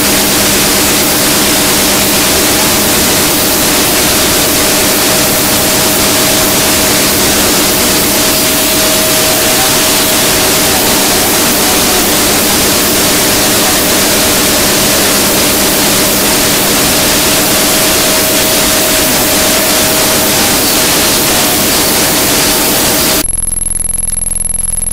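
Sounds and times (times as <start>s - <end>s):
spindle whine: 0.0s - 24.9s.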